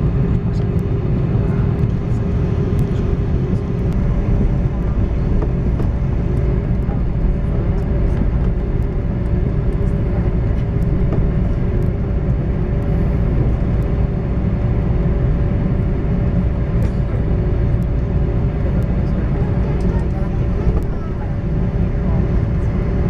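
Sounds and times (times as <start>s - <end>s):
airplane engines rumbling: 0.0s - 23.0s
constant hums: 0.0s - 23.0s.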